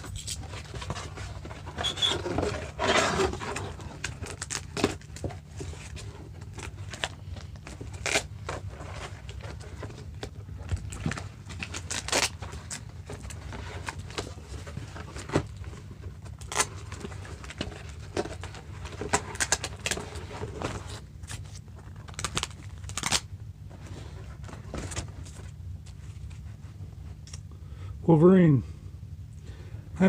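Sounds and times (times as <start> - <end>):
packaging crinkling and rustling: 0.0 - 26.5
steady low hum: 0.0 - 30.0.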